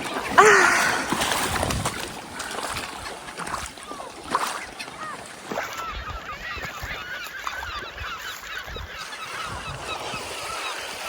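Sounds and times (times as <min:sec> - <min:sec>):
flock of birds chirping: 0:00.0 - 0:11.0
water: 0:00.0 - 0:11.0
wind: 0:00.0 - 0:11.0.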